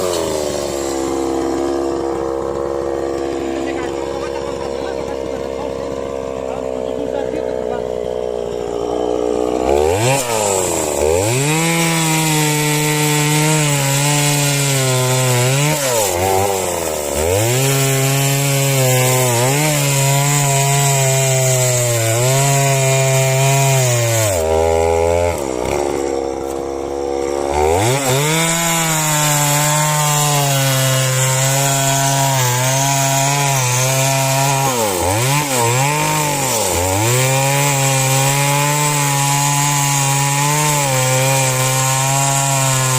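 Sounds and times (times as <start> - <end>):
chainsaw cutting into tree: 0.0 - 42.9.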